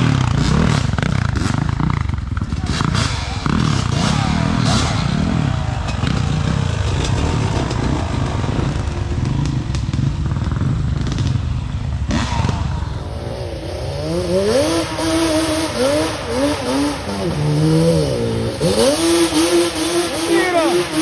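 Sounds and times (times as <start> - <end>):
engine clatter: 0.0 - 21.0
off-road vehicle engine revving: 0.0 - 21.0.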